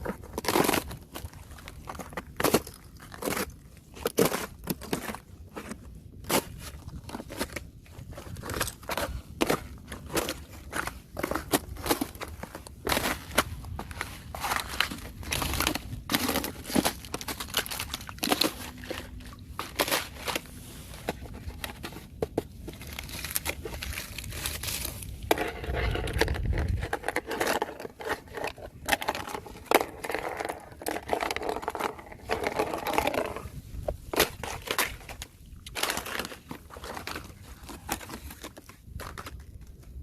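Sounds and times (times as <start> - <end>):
thin ice cracking underfoot: 0.0 - 40.0.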